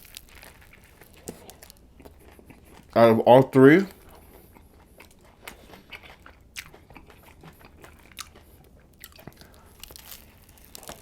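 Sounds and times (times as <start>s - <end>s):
crunches while chewing: 0.0s - 3.0s, 3.9s - 11.0s
person chewing food: 0.0s - 3.0s, 3.8s - 11.0s.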